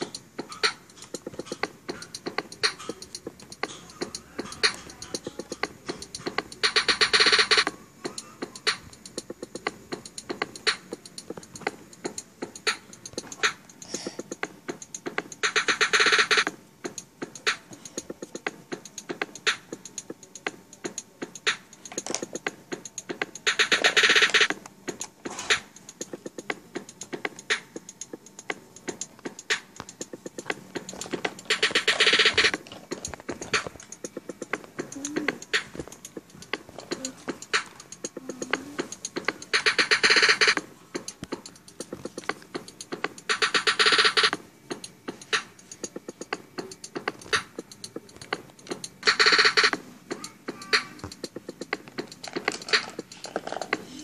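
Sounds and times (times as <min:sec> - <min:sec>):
music with percussive beat: 0:00.0 - 0:54.0.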